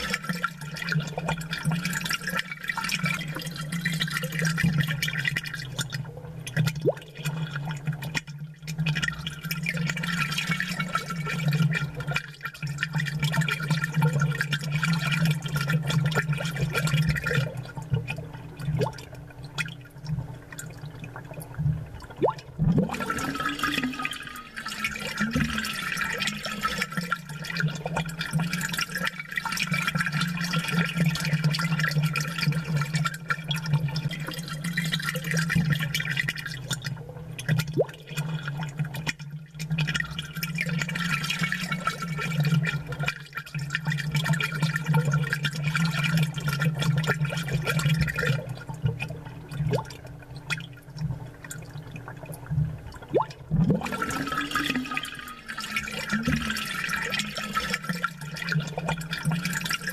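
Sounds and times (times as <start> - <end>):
aquarium water bubbling: 0.0 - 59.9
water gurgle: 0.0 - 59.9.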